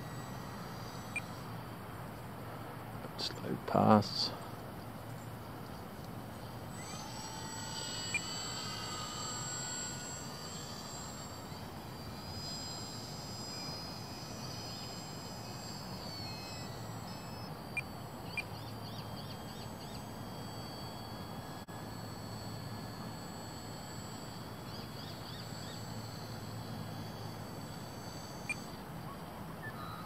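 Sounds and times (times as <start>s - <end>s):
model plane electric motor whining: 0.0s - 3.3s, 4.1s - 30.0s.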